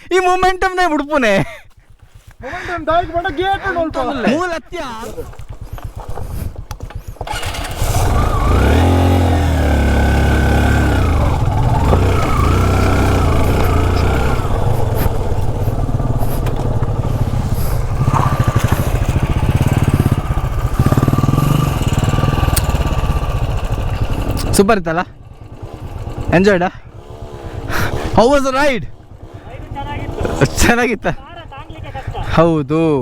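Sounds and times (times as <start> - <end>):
two-stroke motorcycle engine revving: 5.1 - 32.4.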